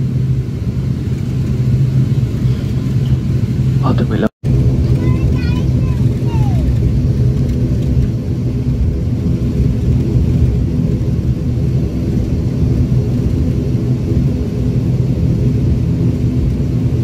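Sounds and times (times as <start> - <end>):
turboprop engine droning: 0.0 - 17.0.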